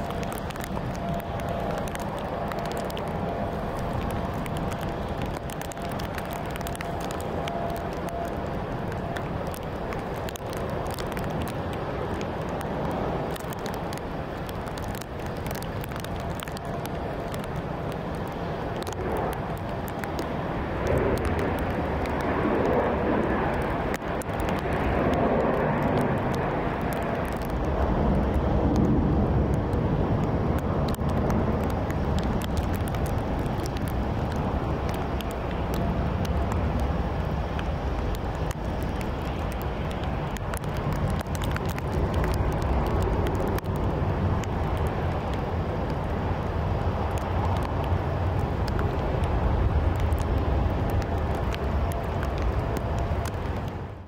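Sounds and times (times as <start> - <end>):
airliner rumble: 0.0 - 54.0.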